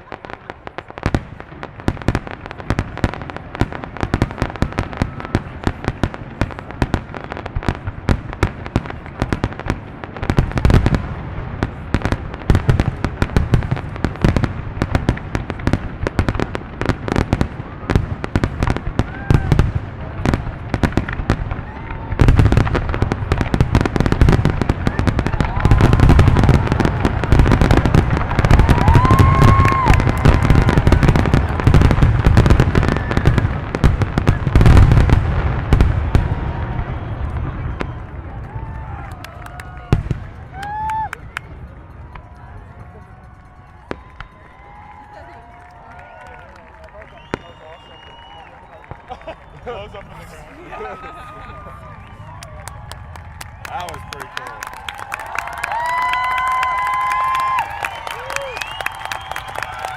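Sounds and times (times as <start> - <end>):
fireworks cracking and booming: 0.0 - 59.9.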